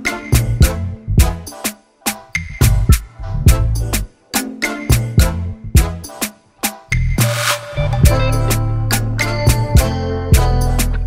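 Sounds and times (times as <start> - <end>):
music with heavy bass beat: 0.2 - 11.0.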